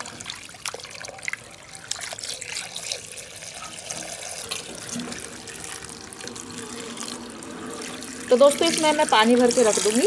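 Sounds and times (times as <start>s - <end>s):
hands washing potatoes in water: 0.0s - 10.0s.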